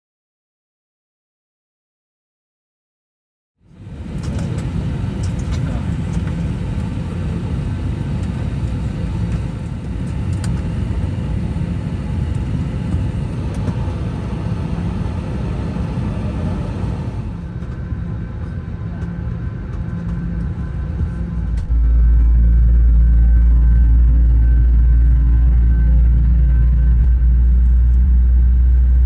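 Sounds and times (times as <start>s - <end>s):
airliner cabin rumble: 3.7s - 29.0s.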